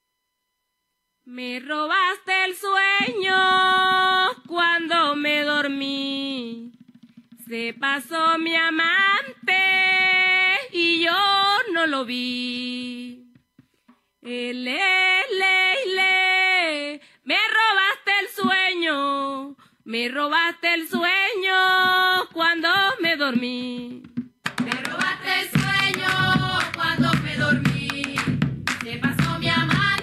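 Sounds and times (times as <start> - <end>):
faint low hum: 0.0 - 6.8, 7.4 - 30.0.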